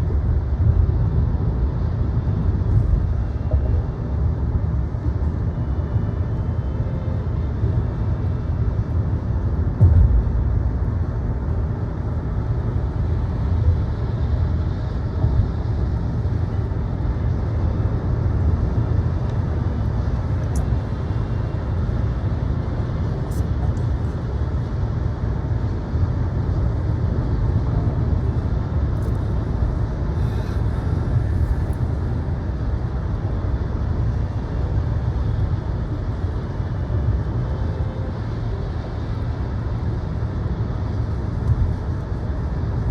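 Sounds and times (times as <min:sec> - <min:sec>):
car road rumble: 0:00.0 - 0:42.9.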